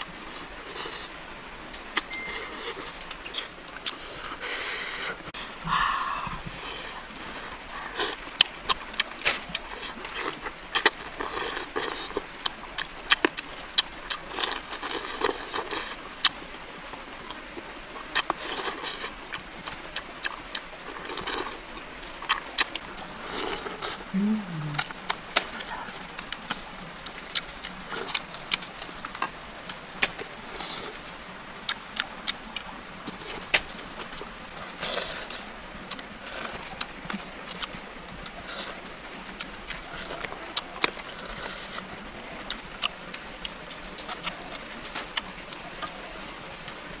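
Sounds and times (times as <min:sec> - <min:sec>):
faint high hiss: 0:00.0 - 0:12.4, 0:20.1 - 0:47.0
crunchy chewing: 0:00.0 - 0:47.0.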